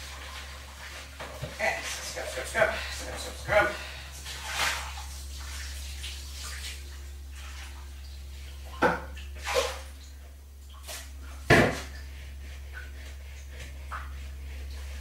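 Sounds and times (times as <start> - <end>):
water splashing in a sink: 0.0 - 15.0.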